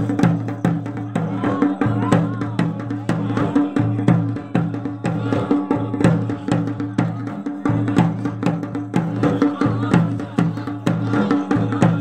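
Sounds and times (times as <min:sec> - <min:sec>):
drum beaten in steady rhythm: 0:00.0 - 0:12.0.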